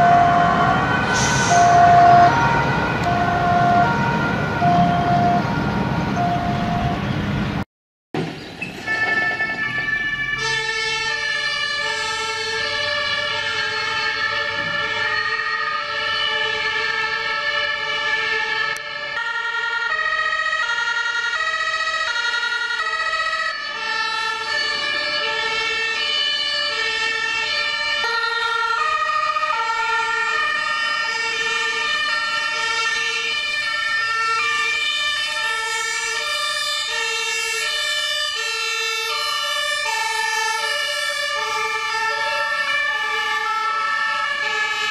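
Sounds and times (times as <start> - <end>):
two-tone sirens: 0.0 - 7.6, 8.6 - 44.9.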